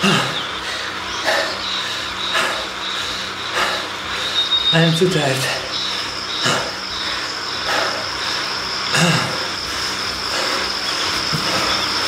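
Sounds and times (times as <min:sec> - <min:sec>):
high-pitched whine: 0:00.0 - 0:12.0
low hum: 0:00.0 - 0:12.0
man breathing heavily: 0:00.0 - 0:12.0.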